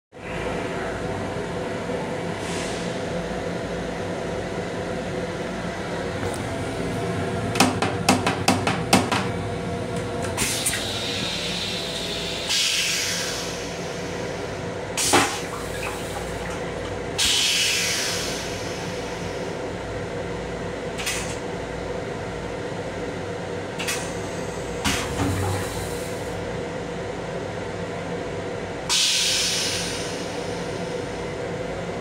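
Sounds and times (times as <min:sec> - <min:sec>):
steady mechanical hum: 0:00.1 - 0:32.0.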